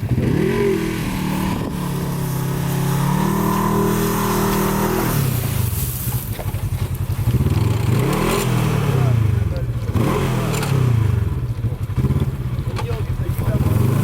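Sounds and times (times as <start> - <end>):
buggy engine revving: 0.0 - 14.0.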